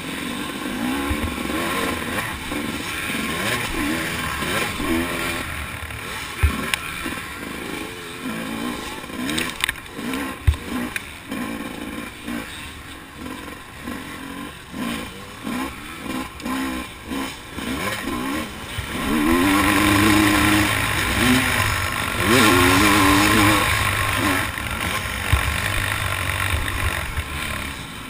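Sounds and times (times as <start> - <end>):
motocross engine revving: 0.0 - 28.0.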